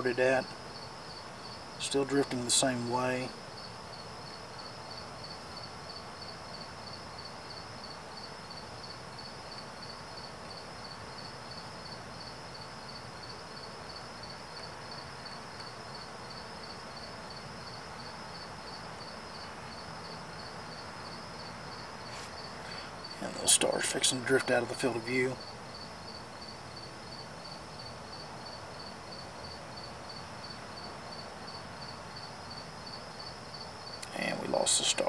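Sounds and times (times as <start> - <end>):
cricket chirping: 0.0 - 35.0
steady hiss: 0.0 - 35.0.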